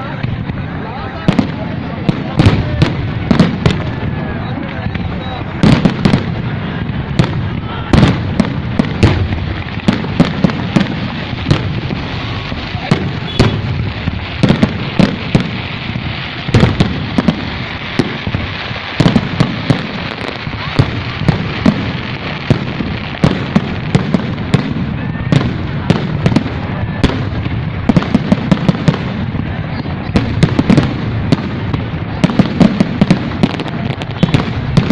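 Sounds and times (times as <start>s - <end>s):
fireworks bangs: 0.0s - 34.9s.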